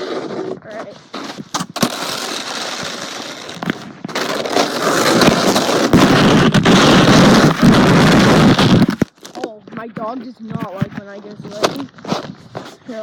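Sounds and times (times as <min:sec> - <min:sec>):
sled scraping over icy snow: 0:00.0 - 0:13.0.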